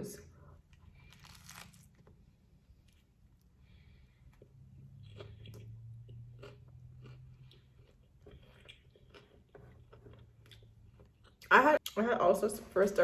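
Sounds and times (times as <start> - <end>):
chewing with soft crunches: 0.6 - 12.0.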